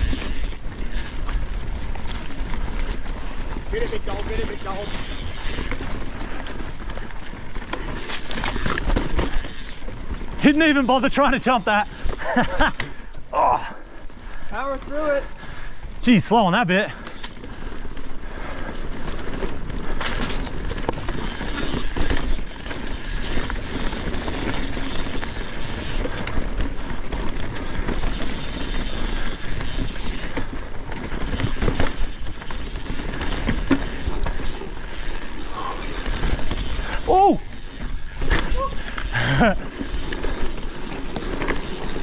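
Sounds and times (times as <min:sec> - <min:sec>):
bike chain rattling and clicking: 0:00.0 - 0:16.0, 0:16.7 - 0:42.0
bike tyres rolling on dirt: 0:00.0 - 0:42.0.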